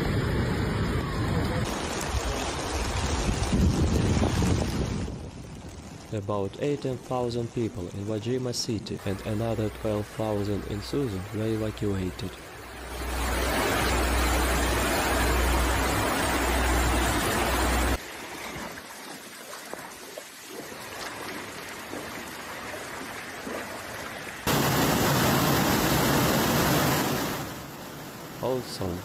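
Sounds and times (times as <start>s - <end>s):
floodwater rushing loudly: 0.0s - 7.3s, 9.0s - 29.0s
softer rush of water: 0.0s - 7.7s, 9.0s - 29.0s.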